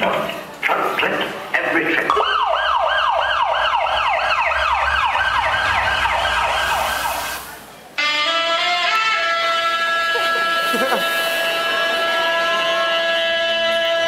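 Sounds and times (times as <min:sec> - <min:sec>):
siren wail: 0:02.1 - 0:14.0.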